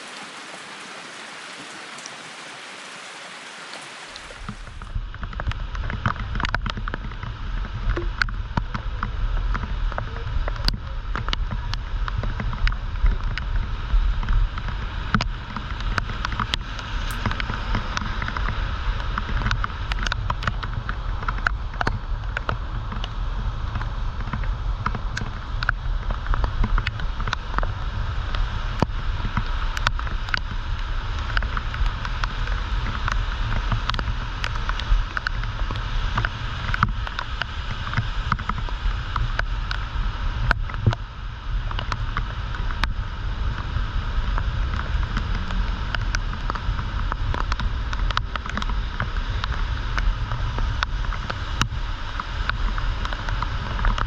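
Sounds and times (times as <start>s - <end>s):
heavy rain hissing: 0.0s - 54.0s
raindrops ticking: 0.0s - 54.0s
wind buffeting microphone: 4.3s - 54.0s.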